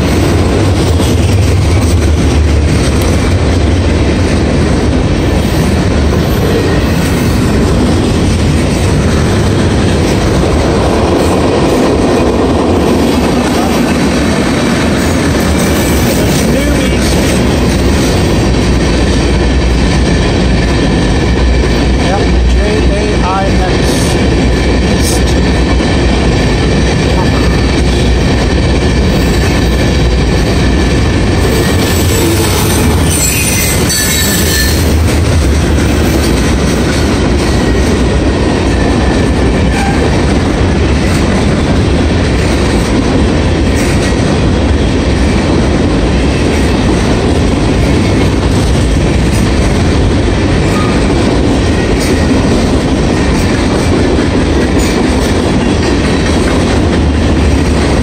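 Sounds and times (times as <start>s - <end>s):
freight train rumble: 0.0s - 58.0s.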